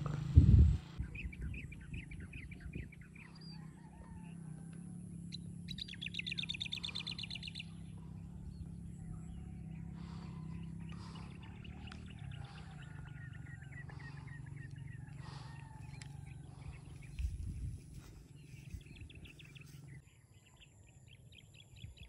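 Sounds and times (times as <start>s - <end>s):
birds chirping and trilling: 0.0s - 22.0s
steady low hum: 0.0s - 22.0s.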